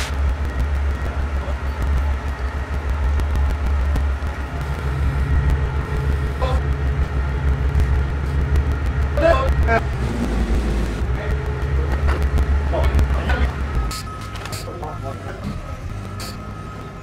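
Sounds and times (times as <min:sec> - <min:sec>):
forklift engine idling: 0:00.0 - 0:17.0
higher hum: 0:00.0 - 0:17.0.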